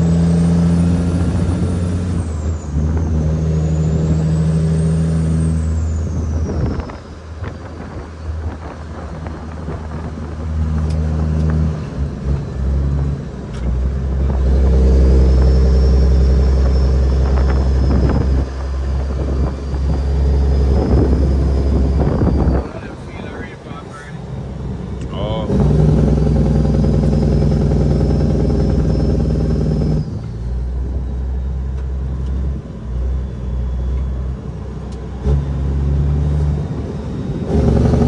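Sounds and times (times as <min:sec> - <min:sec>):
diesel truck engine under load: 0:00.0 - 0:38.0.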